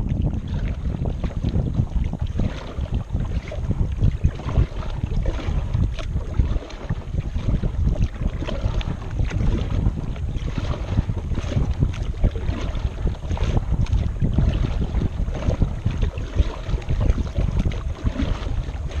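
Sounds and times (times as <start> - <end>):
kayak paddle splashing water: 0.0 - 19.0
wind buffeting microphone: 0.0 - 19.0.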